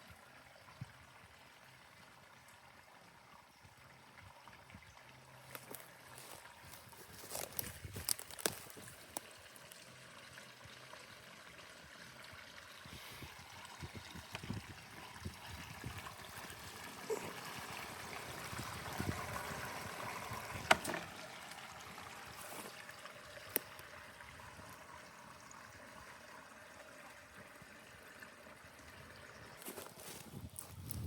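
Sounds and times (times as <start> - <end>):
water trickling and flowing: 0.0 - 31.0.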